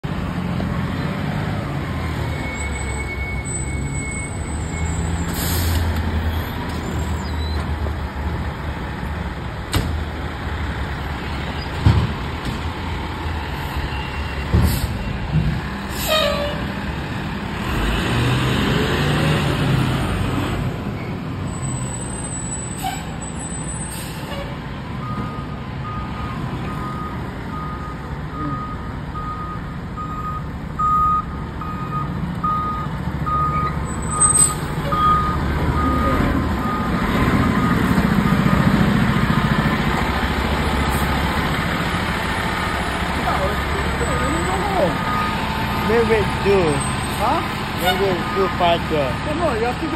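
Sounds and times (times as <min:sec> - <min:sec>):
diesel engines running: 0:00.0 - 0:49.9.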